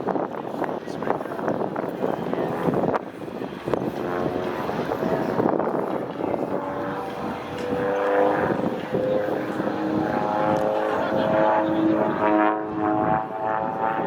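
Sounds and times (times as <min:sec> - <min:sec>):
propeller airplane engine drone: 0:00.0 - 0:14.0.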